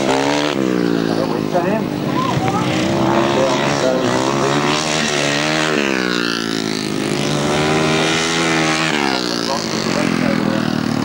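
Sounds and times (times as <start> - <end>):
motorcycle engines running hard: 0.0 - 11.0.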